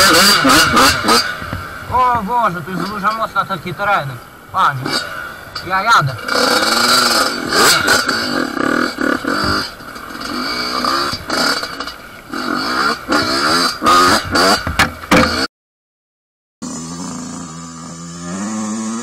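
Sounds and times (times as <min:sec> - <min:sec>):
dirt bike engine revving: 0:00.0 - 0:15.5, 0:16.6 - 0:19.0.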